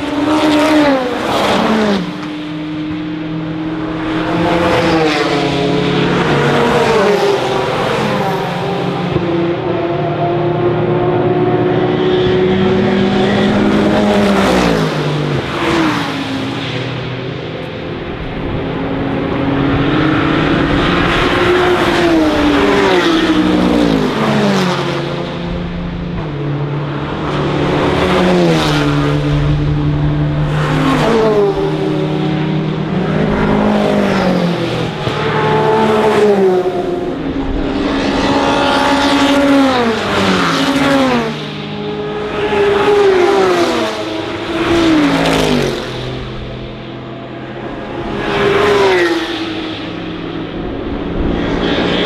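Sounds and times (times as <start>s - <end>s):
racing cars passing by: 0.0s - 52.0s.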